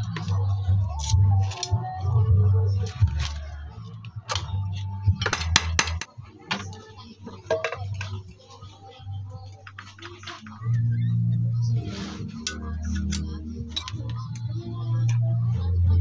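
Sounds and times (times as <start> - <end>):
low background music: 0.0 - 16.0.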